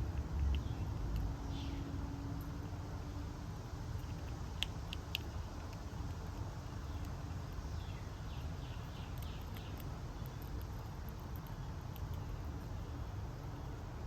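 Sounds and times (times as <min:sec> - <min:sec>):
small birds chirping: 0:00.0 - 0:03.0, 0:03.6 - 0:14.0.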